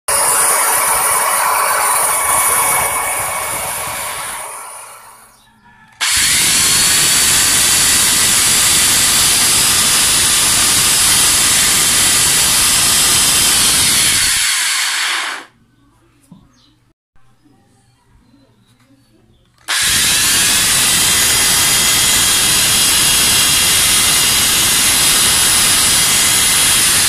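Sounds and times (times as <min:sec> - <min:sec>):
electric planer motor running: 0:00.1 - 0:05.2, 0:06.0 - 0:15.5, 0:19.7 - 0:27.0.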